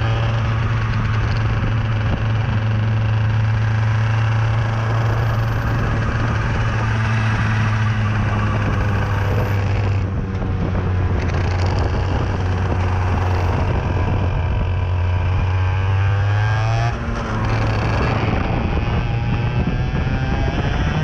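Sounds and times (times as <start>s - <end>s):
kart engine running under load: 0.0s - 21.0s.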